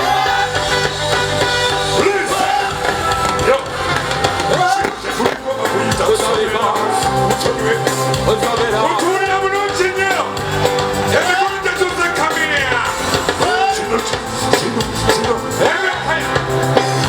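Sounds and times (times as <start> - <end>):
instrumental backing: 0.0 - 17.0
person singing: 0.0 - 17.0.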